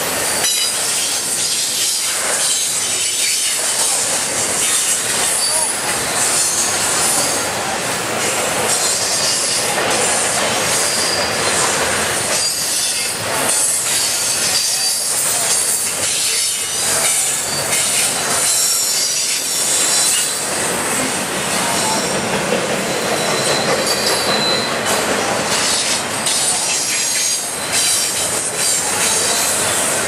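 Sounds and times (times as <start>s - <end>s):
high wheel squeals: 0.0s - 7.6s, 8.2s - 30.0s
train wheels rumbling on rail: 0.0s - 30.0s.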